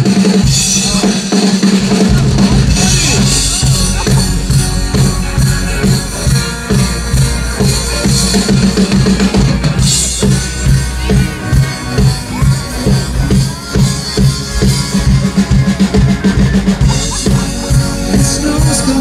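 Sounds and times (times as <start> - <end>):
bass guitar: 0.0 - 19.0
drum kit beat: 0.0 - 19.0
electric guitars: 0.0 - 19.0
rock band playing: 0.0 - 19.0.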